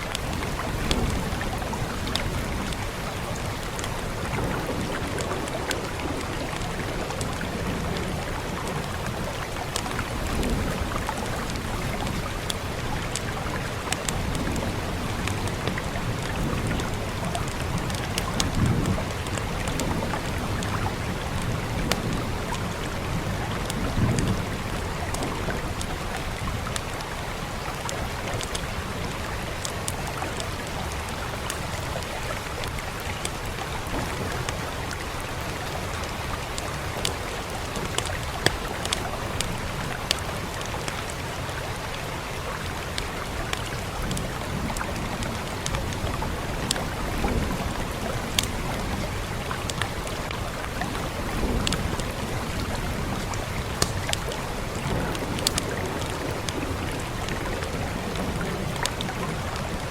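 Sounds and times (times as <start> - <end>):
fireplace fire crackling: 0.0 - 59.9
steady rain: 0.0 - 59.9.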